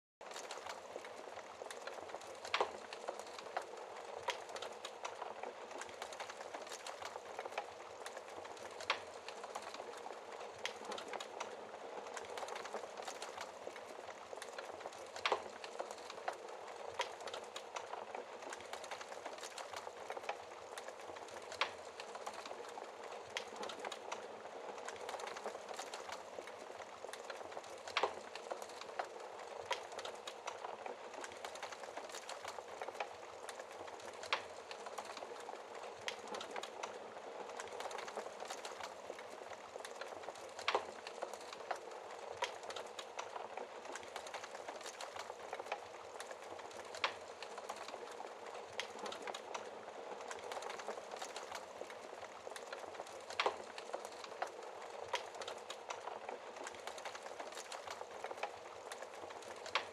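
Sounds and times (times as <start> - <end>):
soft rush of flames: 0.2 - 59.9
wood fire crackling: 0.2 - 59.9.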